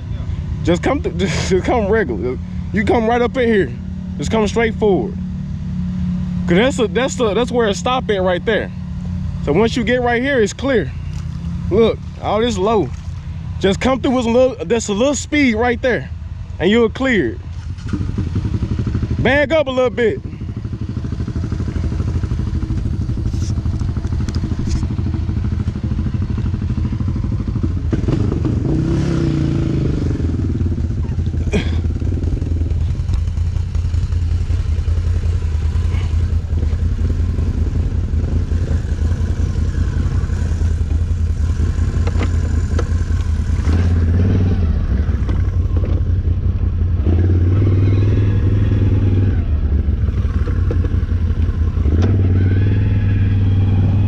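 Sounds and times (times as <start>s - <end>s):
engine running at low revs: 0.0s - 54.0s.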